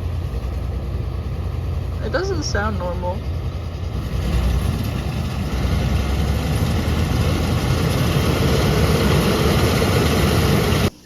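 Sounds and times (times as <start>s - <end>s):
combine engine running: 0.0s - 10.9s.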